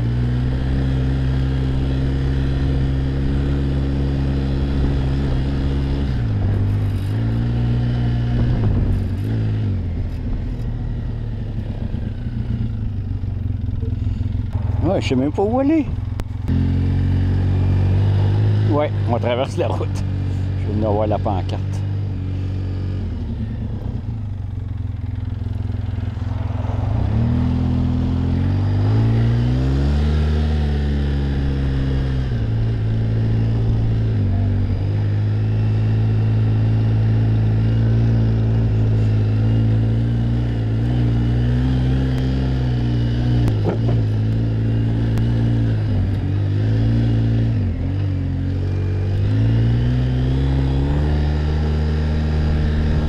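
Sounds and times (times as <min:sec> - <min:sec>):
quad bike engine revving: 0:00.0 - 0:53.0.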